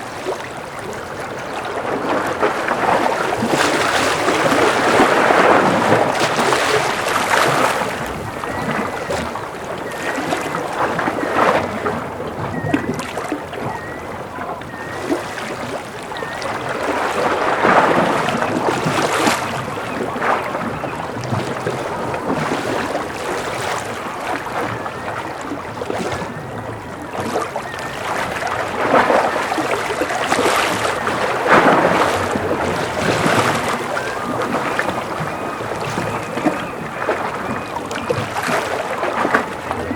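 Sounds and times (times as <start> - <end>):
waves washing against concrete: 0.0 - 39.9.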